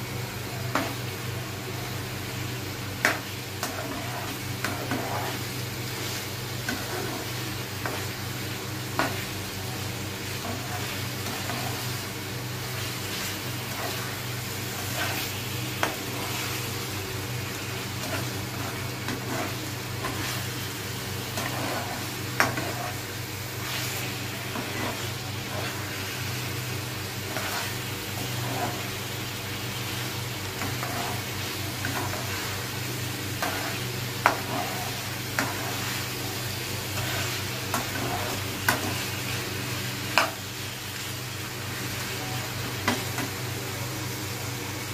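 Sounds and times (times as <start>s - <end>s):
chicken sizzling in a frying pan: 0.0s - 44.9s.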